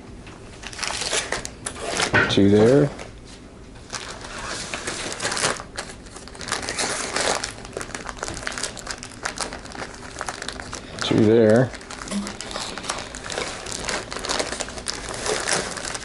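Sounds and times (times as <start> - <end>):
plastic bags crinkling: 0.6 - 3.0, 3.8 - 16.0.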